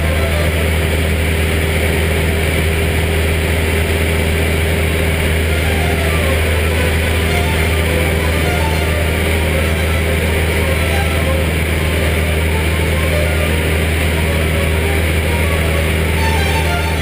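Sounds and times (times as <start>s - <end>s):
airplane engine and propeller drone: 0.0s - 17.0s.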